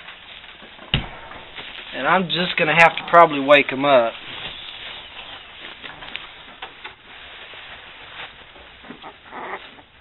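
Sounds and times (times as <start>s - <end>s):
faint rustling: 0.0s - 10.0s.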